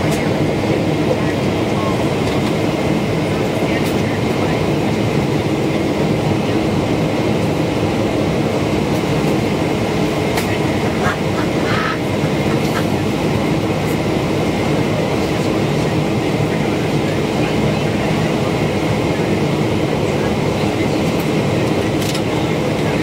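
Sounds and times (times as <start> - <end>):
jet cabin rumble and hiss: 0.0 - 23.0.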